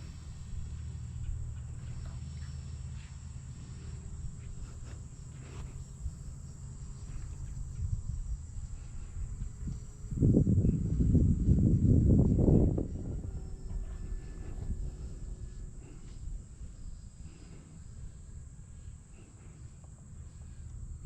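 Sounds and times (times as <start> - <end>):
faint rustles and ticks: 0.7 - 21.0
wind rumbling on microphone: 4.0 - 21.0.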